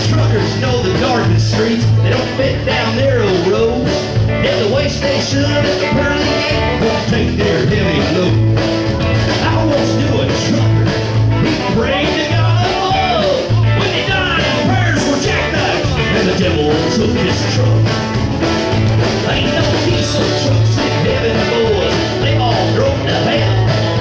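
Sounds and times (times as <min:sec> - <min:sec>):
acoustic guitar: 0:00.0 - 0:24.0
drums: 0:00.0 - 0:24.0
electric guitar: 0:00.0 - 0:24.0
upright bass: 0:00.0 - 0:24.0.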